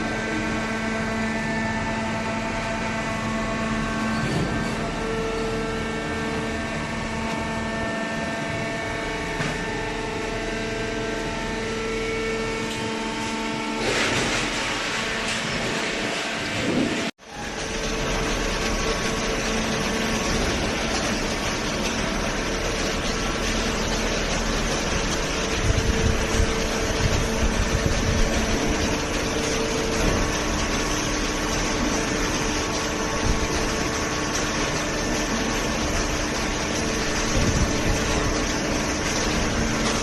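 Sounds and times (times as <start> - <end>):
hydraulic baler motor hum: 0.0 - 40.0.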